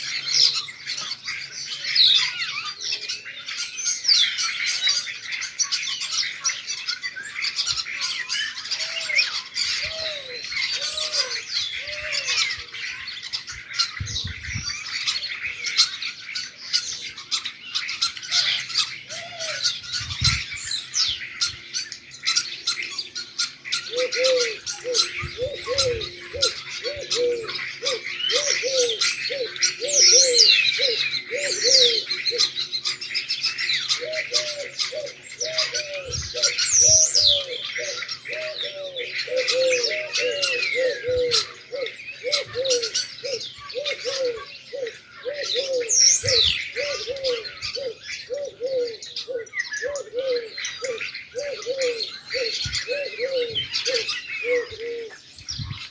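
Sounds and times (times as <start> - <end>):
birds chirping and twittering: 0.0 - 55.9
low repeated bird call: 0.0 - 55.9.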